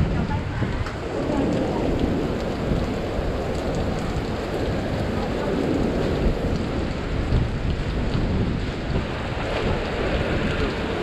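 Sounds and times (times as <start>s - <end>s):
steady rain: 0.0s - 11.0s
wind buffeting microphone: 0.0s - 11.0s.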